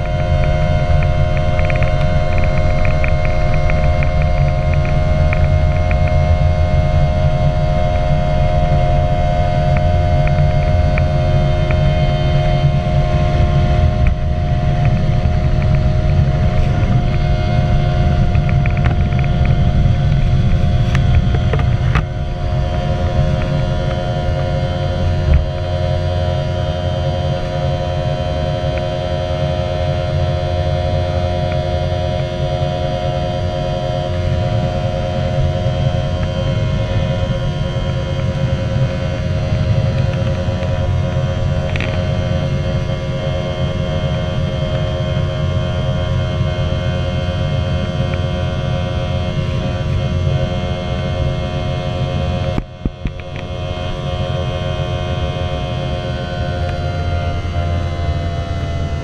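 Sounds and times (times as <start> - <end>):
jet engine drone in cabin: 0.0 - 59.0
low rumble: 0.0 - 59.0.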